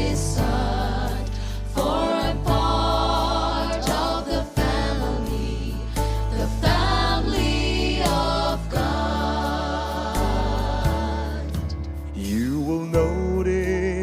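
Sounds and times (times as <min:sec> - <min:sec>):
gospel choir singing: 0:00.0 - 0:12.4.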